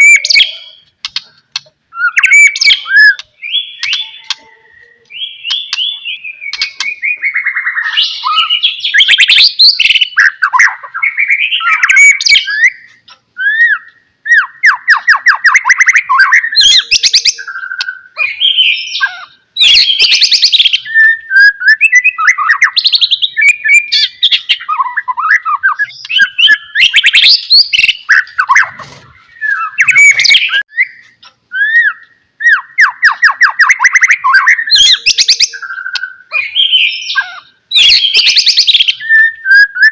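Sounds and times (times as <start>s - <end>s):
songbird singing whistles and trills: 0.0s - 39.9s.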